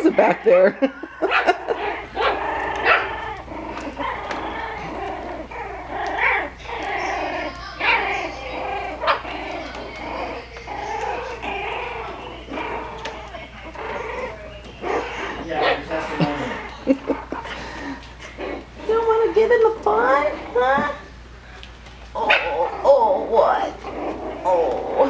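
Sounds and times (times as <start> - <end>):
puppies yipping and barking: 0.0 - 21.3, 22.1 - 25.0.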